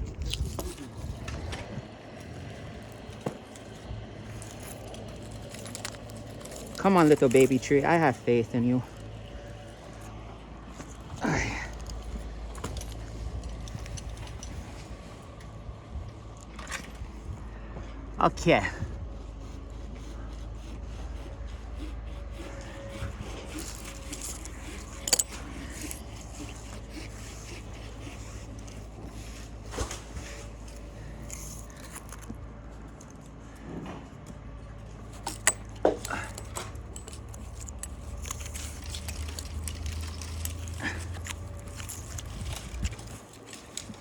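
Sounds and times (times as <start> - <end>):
metal climbing hardware clinking: 0.1 - 15.4, 22.2 - 33.8, 34.9 - 44.0.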